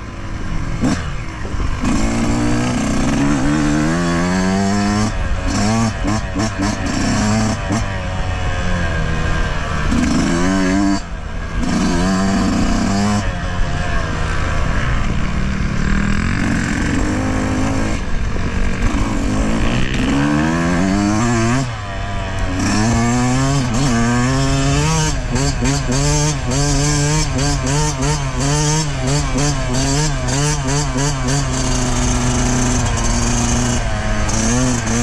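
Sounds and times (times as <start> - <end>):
two-stroke motorcycle engine revving: 0.0 - 35.0.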